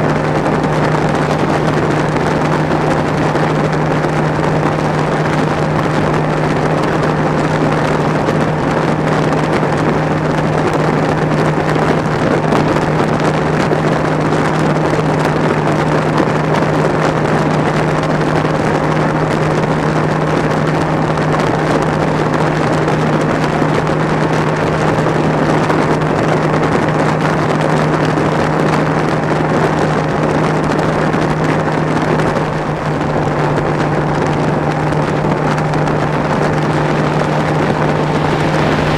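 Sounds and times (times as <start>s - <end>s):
outboard motor running: 0.0s - 38.9s
rush of wind and water: 0.0s - 38.9s.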